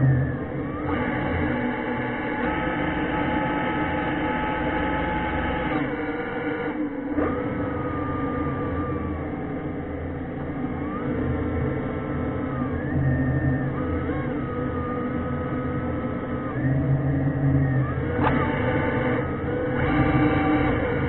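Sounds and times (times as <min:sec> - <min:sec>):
electric thruster motors whining: 0:00.0 - 0:21.0.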